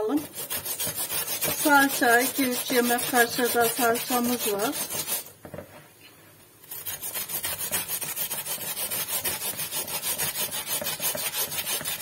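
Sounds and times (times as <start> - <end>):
potato grating on metal grater: 0.0 - 5.3, 6.6 - 12.0.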